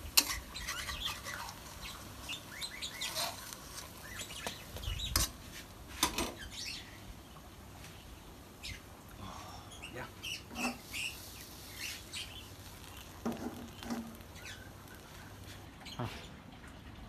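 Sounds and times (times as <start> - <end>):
cake frying in oil: 0.0 - 17.0
birds chirping: 0.4 - 5.3, 6.2 - 16.5.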